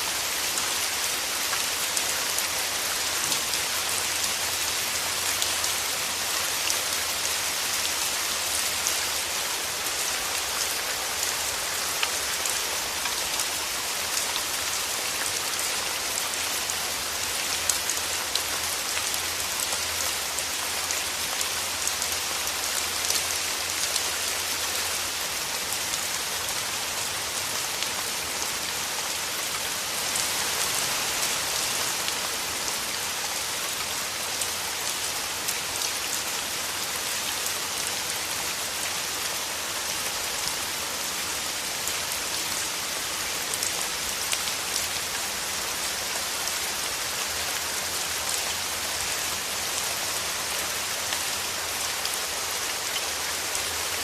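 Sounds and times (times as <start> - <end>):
rain falling through trees: 0.0 - 54.0.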